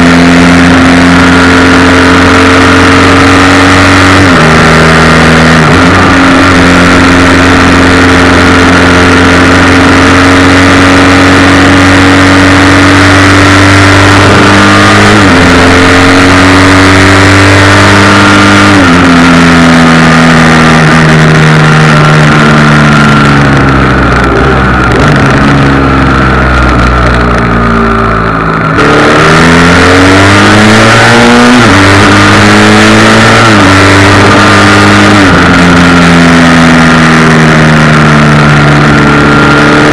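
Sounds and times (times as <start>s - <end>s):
motorcycle engine accelerating: 0.0s - 39.9s
wind noise: 3.3s - 39.9s.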